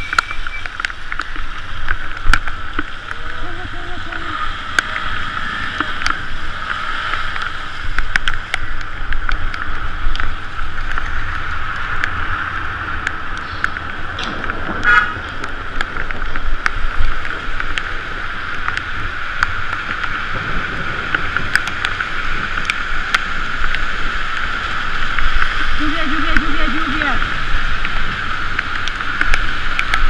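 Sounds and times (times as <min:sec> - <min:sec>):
tyres hissing on wet pavement: 0:00.0 - 0:30.0
wind: 0:00.0 - 0:30.0.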